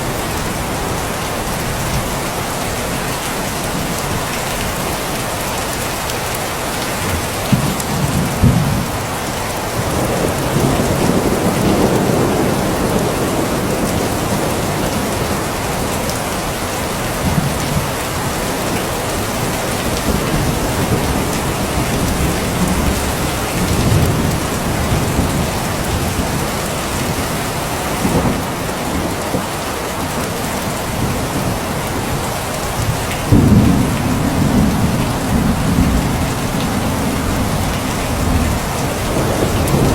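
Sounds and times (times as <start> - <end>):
heavy rain hissing: 0.0 - 39.9
thunder rumbling: 7.0 - 39.9.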